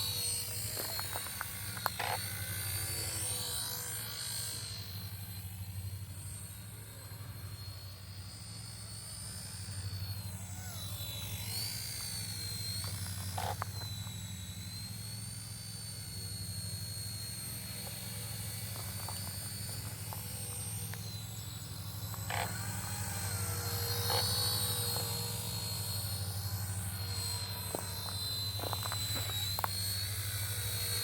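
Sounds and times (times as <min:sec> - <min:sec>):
model helicopter whine: 0:00.0 - 0:31.0.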